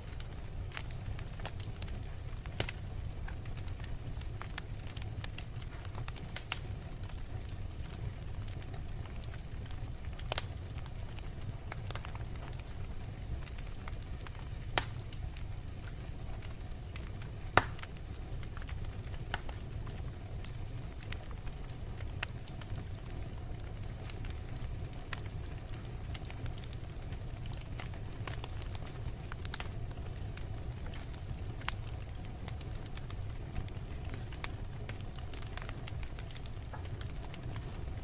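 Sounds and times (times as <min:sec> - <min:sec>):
fire flames rumbling: 0:00.0 - 0:38.0
wood crackling and popping: 0:00.0 - 0:38.0.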